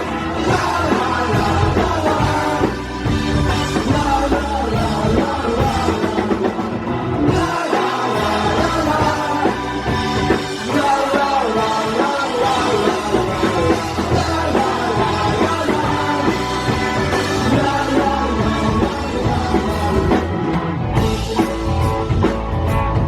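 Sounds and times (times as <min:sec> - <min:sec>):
live punk rock band: 0:00.0 - 0:23.0.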